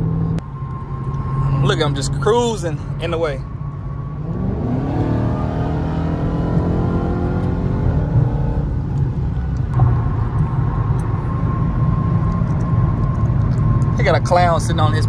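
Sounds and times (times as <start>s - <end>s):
car engine accelerating: 0.0s - 15.0s
road and wind noise: 0.0s - 15.0s.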